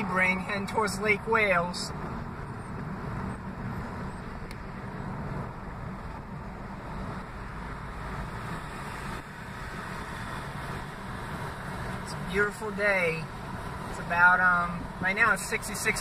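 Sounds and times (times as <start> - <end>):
car tyre and engine rumble: 0.0 - 16.0.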